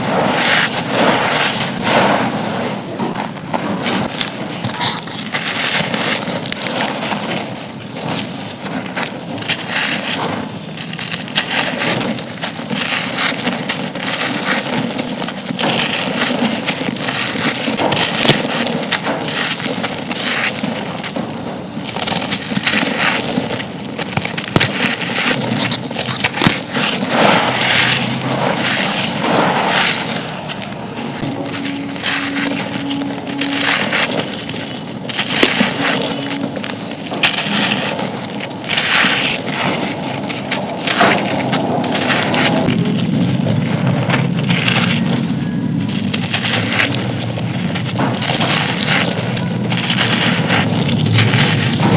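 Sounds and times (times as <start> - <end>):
concrete pieces crunching: 0.0 - 51.9.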